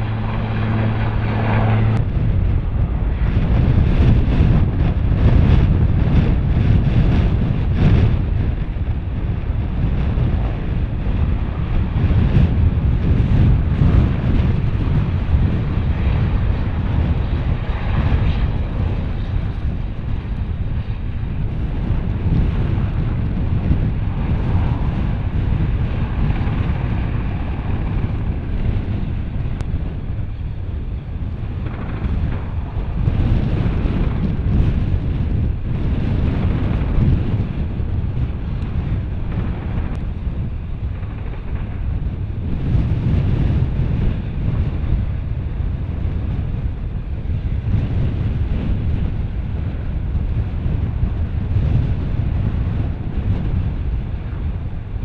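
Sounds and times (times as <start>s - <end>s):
helicopter rotor rumble: 0.0s - 55.0s
wind buffeting microphone: 0.0s - 55.0s.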